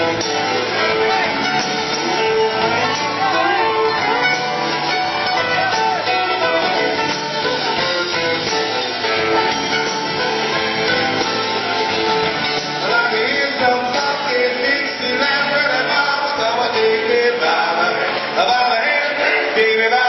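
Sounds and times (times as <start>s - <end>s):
guitars plucked and strummed: 0.0s - 20.0s
rock band playing: 0.0s - 20.0s.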